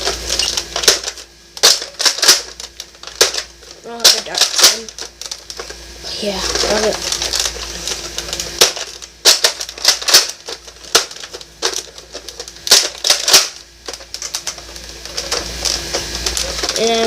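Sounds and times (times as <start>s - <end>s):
plastic toy blaster clicks and rattles: 0.0s - 5.7s, 6.3s - 17.0s.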